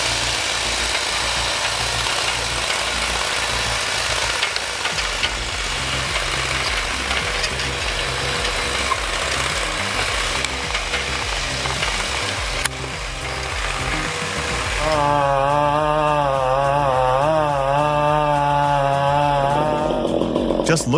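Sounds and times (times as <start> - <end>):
engine running under load: 0.0 - 20.9.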